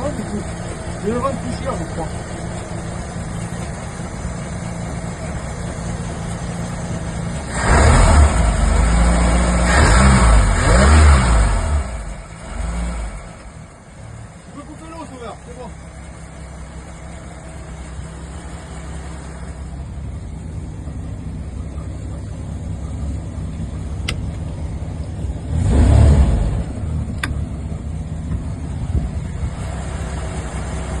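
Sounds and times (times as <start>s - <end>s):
boat engine rumbling: 0.0s - 9.8s, 10.4s - 31.0s.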